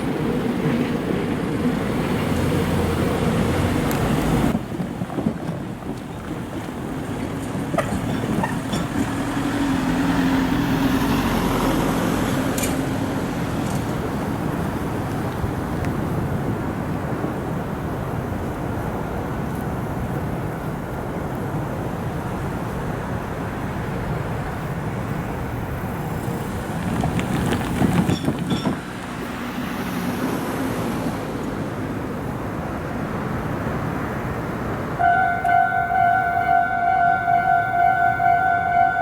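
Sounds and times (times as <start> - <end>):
electric train rumbling past: 0.0 - 39.0.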